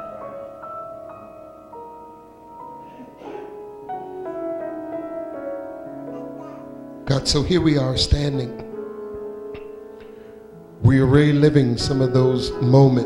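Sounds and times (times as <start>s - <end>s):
soft electric keyboard chords: 0.0s - 13.0s.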